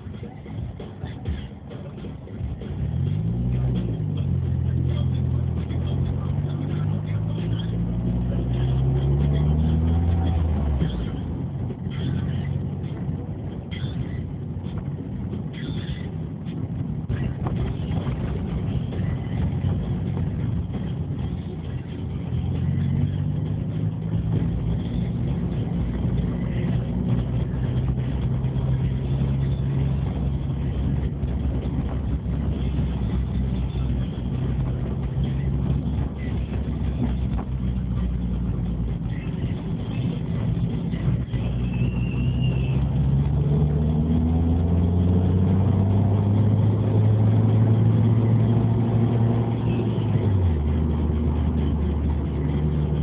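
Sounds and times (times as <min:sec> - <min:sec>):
car engine drone inside cabin: 0:00.0 - 0:53.0.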